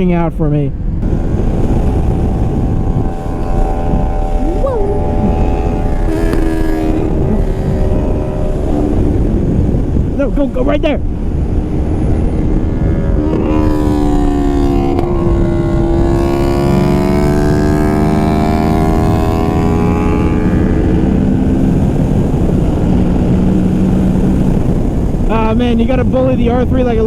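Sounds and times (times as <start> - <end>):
wind rush on microphone: 0.0 - 27.0
motorcycle engine accelerating: 0.8 - 27.0.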